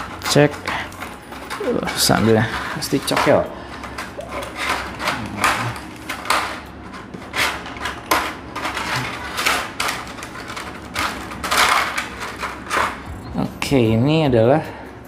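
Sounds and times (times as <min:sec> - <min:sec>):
plastic blister tray crackling: 0:00.0 - 0:13.1.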